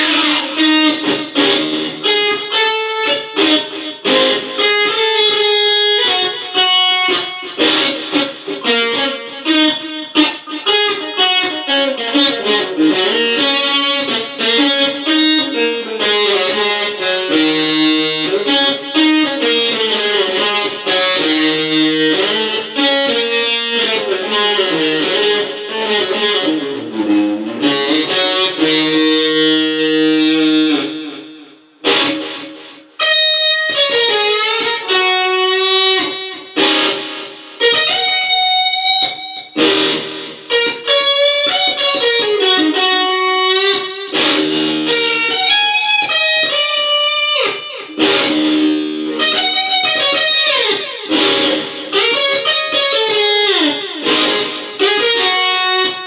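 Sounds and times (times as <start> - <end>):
electric guitar playing blues: 0.0 - 56.0.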